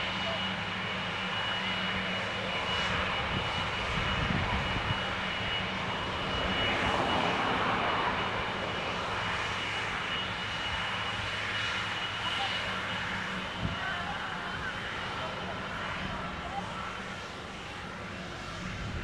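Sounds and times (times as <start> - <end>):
airplane engines passing: 0.0 - 19.0.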